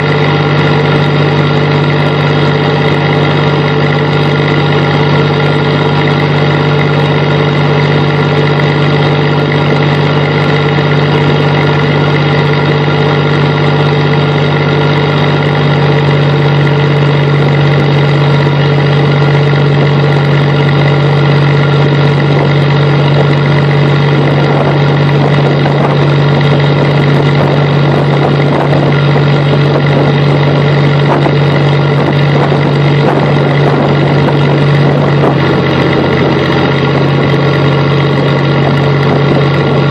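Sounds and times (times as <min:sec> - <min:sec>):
boat engine droning: 0:00.0 - 0:39.9
water rushing along hull: 0:00.0 - 0:39.9.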